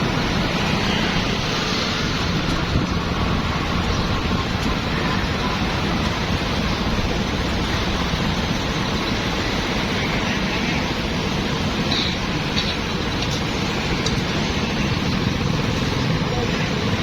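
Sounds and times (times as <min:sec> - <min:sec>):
car engines and tyres passing: 0:00.0 - 0:17.0
motorbike engines: 0:00.0 - 0:17.0.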